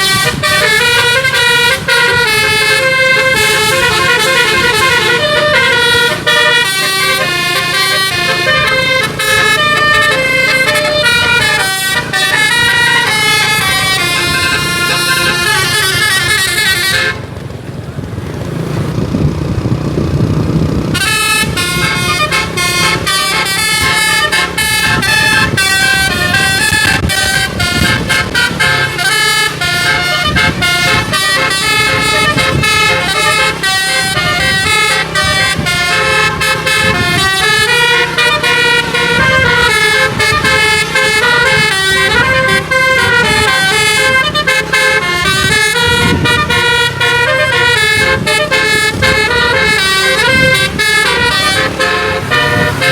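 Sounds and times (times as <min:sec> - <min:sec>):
musical air horn melody: 0:00.0 - 0:17.3, 0:20.9 - 0:52.9.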